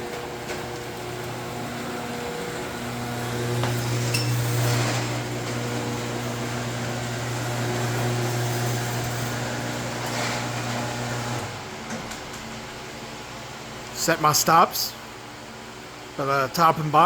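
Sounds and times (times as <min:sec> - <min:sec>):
garage door opener motor humming: 0:00.0 - 0:14.2.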